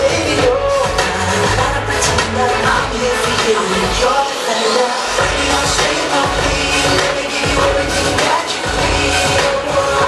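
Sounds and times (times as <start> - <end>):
pop song with singing: 0.0 - 10.0.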